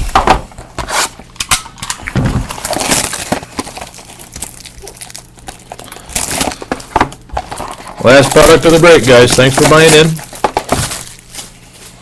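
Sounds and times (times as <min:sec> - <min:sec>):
cardboard packaging being handled: 0:02.2 - 0:12.0.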